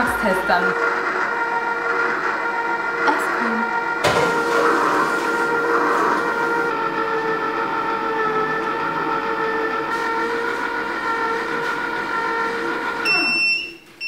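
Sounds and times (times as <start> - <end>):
ice cream maker humming: 0.0 - 14.0.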